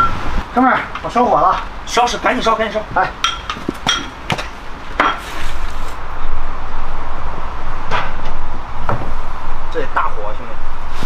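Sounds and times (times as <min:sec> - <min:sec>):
stove fire roaring: 0:00.0 - 0:11.0.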